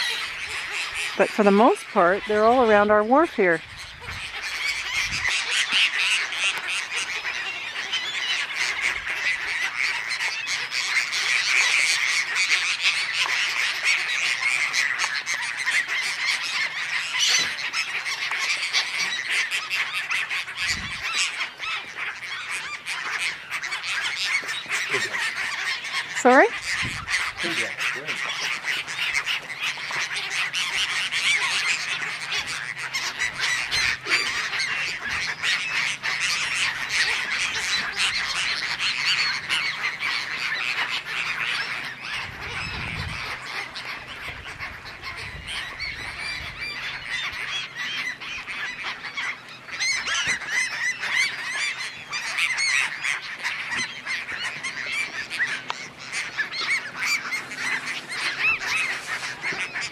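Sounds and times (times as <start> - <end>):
gulls cackling and crying: 0.0 - 59.9.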